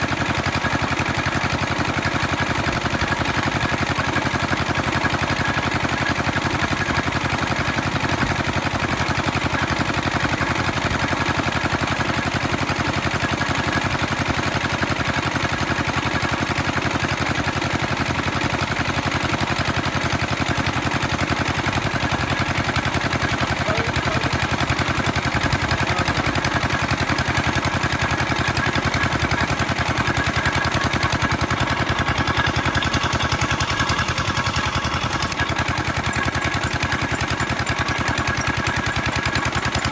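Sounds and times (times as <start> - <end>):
small engine popping steadily: 0.0 - 39.9.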